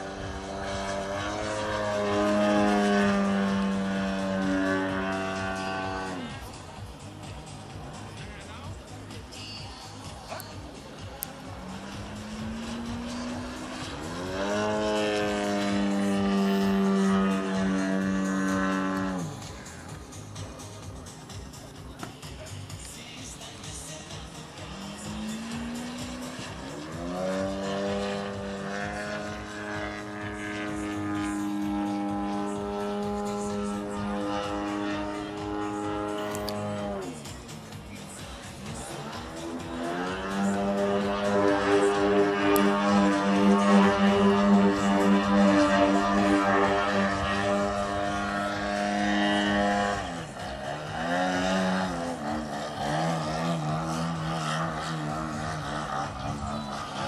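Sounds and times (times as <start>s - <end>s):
model plane engine and propeller: 0.0s - 57.0s.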